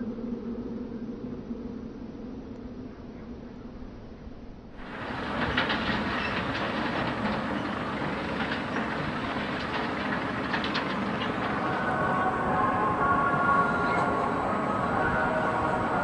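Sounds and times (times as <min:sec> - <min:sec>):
steady mechanical rumble: 0:00.0 - 0:16.0.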